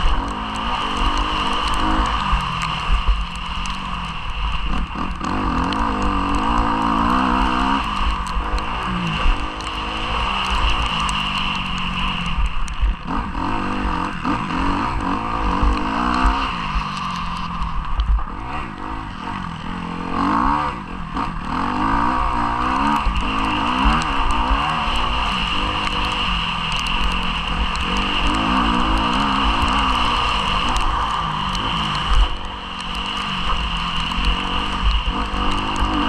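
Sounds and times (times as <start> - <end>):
motocross bike engine revving: 0.0 - 36.0.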